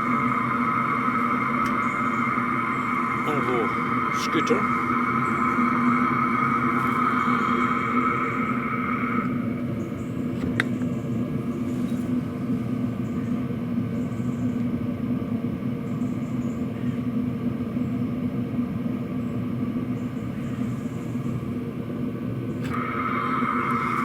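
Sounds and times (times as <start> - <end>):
heater exhaust droning: 0.0 - 24.0.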